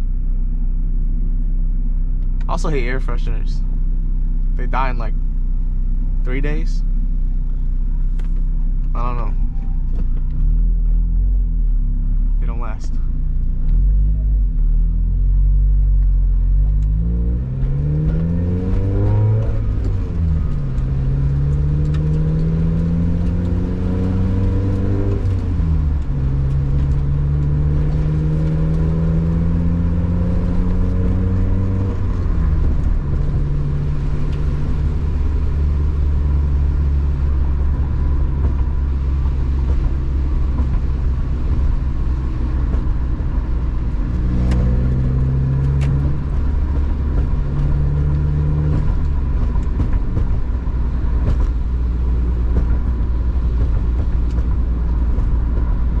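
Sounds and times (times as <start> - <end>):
car engine accelerating through gears: 7.4 - 56.0.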